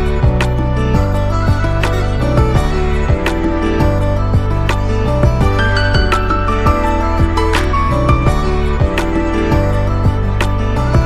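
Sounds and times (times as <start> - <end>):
calm new-age music: 0.0 - 11.0.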